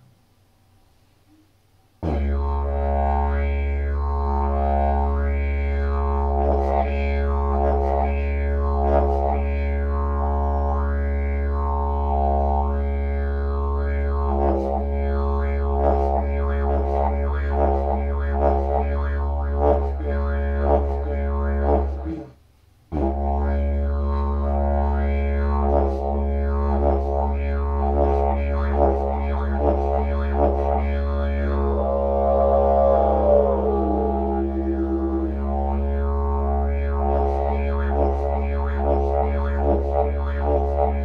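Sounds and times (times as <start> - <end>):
didgeridoo drone: 2.0 - 41.0.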